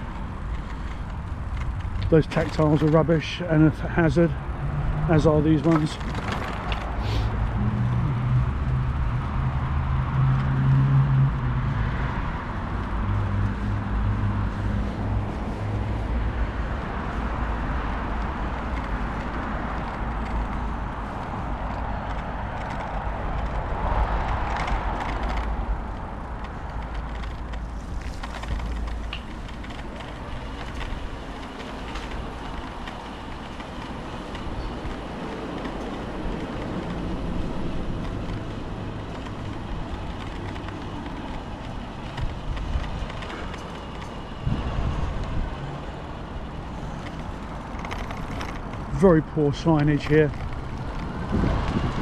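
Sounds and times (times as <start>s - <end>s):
rush of passing traffic: 0.0s - 52.0s
vehicle engine humming: 0.0s - 52.0s.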